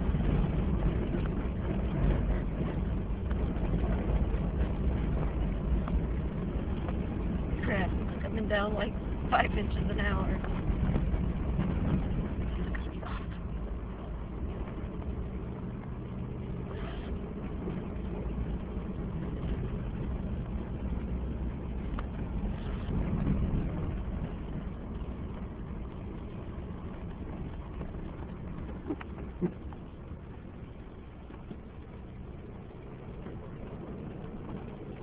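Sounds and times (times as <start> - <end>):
vehicle engine and tyre noise: 0.0 - 35.0.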